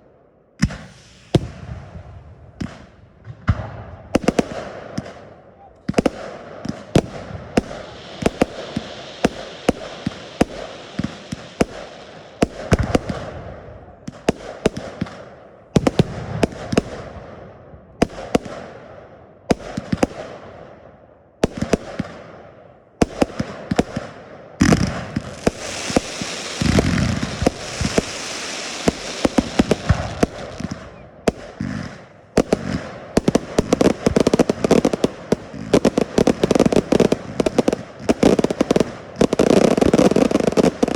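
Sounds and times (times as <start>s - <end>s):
fireworks hissing and crackling: 0.6s - 3.0s, 4.1s - 17.3s, 23.0s - 40.9s
fireworks bangs: 0.6s - 20.8s, 21.4s - 40.9s.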